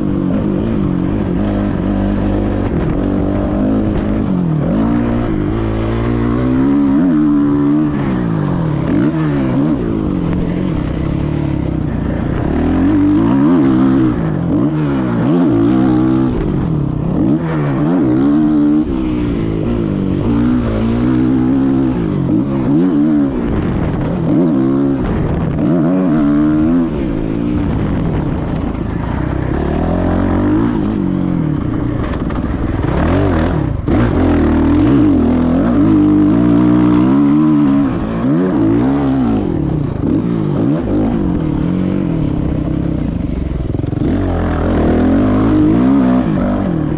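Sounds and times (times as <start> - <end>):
motocross bike engine revving: 0.0 - 46.9.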